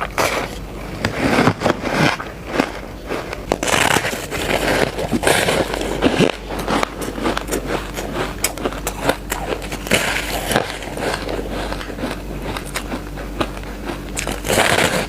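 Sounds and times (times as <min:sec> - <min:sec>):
ice being chewed crunching: 0:00.0 - 0:15.0.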